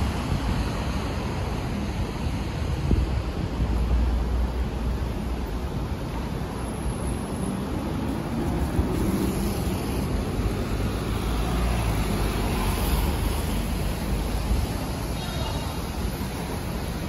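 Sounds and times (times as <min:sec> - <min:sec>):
motor vehicle rumbling: 0:00.0 - 0:17.0
street noise: 0:00.0 - 0:17.0.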